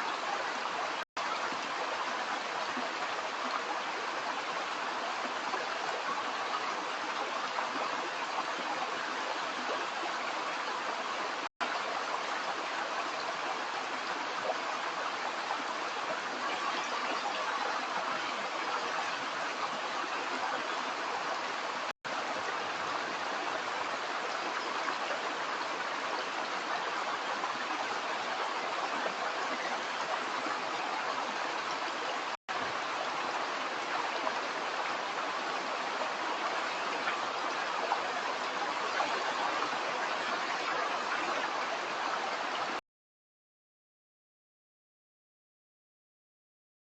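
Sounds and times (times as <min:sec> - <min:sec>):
stream water over rocks: 0:00.0 - 0:42.8.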